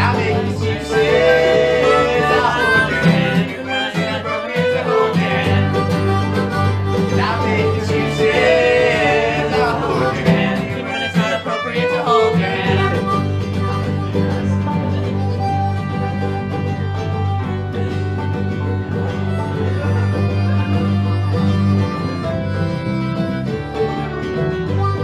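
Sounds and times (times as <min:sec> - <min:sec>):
bluegrass string band playing: 0:00.0 - 0:25.0.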